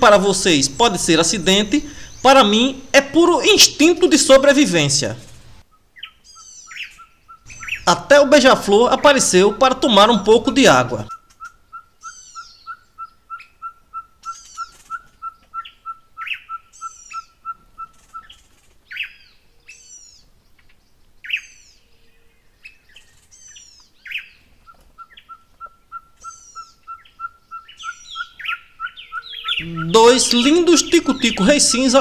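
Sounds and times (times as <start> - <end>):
birds sharp falling chirps: 0.0 - 20.3, 22.6 - 32.0.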